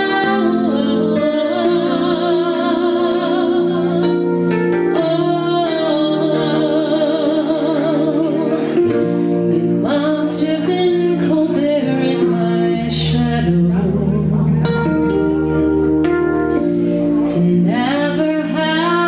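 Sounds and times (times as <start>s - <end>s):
person singing with vibrato: 0.0s - 15.3s
instrumental accompaniment: 0.0s - 19.0s.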